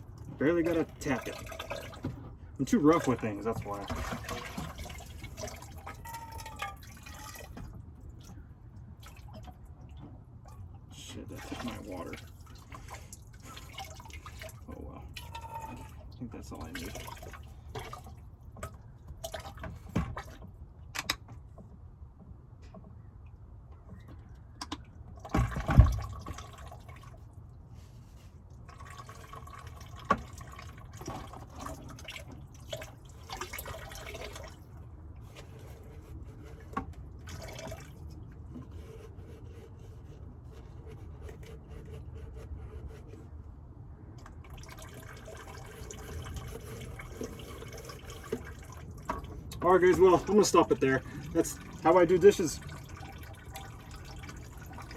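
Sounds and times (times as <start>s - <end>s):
water trickling and dripping: 0.0s - 20.6s, 23.2s - 27.6s, 28.4s - 41.6s, 44.2s - 54.9s.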